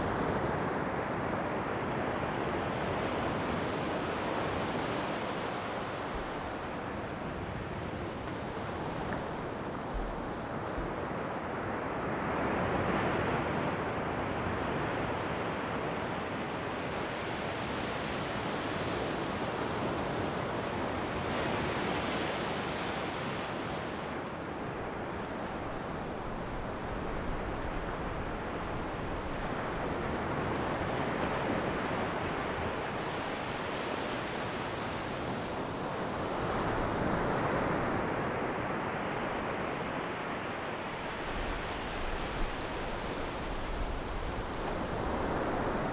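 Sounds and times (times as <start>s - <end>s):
ocean waves breaking on shore: 0.0s - 45.9s.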